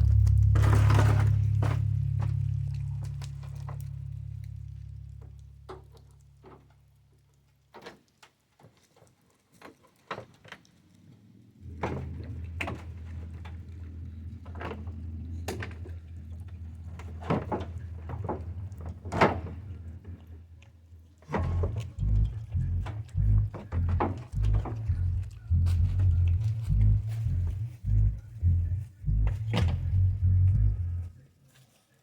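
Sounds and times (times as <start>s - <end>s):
low steady hum: 0.0s - 7.7s, 11.6s - 31.4s.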